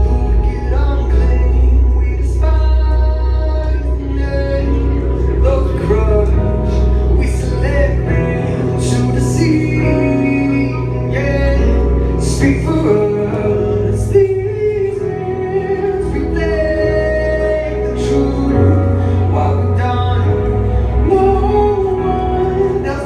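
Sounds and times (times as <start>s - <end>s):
steady bass: 0.0s - 23.0s.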